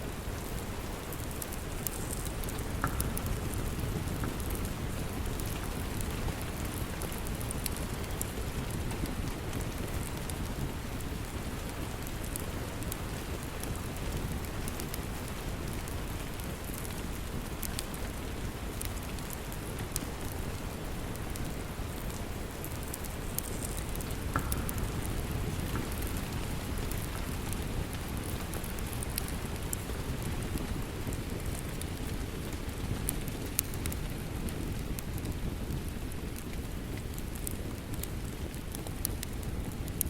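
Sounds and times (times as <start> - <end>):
steady rain: 0.0 - 40.0
wood fire crackling and popping: 0.1 - 40.0.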